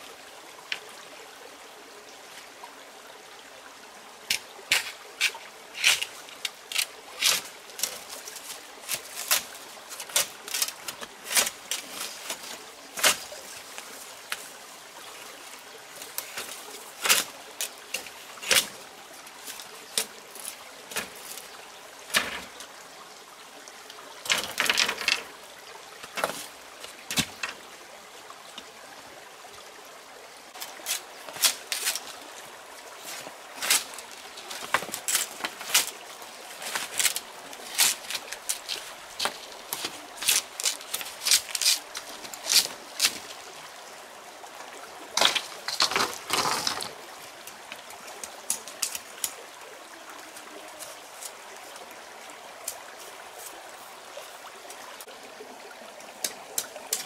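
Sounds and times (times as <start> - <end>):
small stream running: 0.0 - 57.0.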